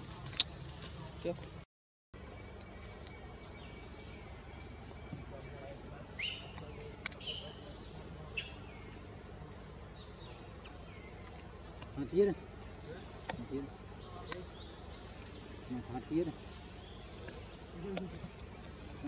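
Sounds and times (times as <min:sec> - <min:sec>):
high-pitched insect drone: 0:02.2 - 0:19.0.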